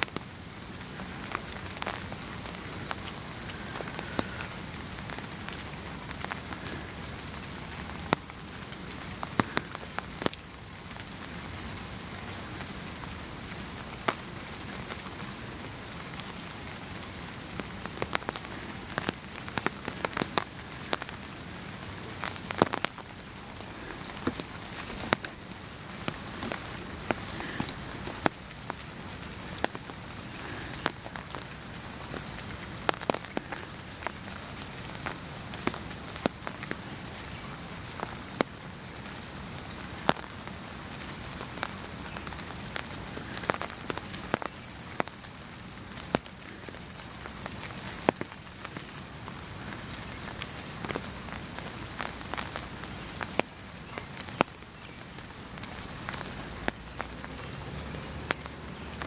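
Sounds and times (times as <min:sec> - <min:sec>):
large raindrops tapping: 0:00.0 - 0:59.0
steady rain falling: 0:00.0 - 0:59.0.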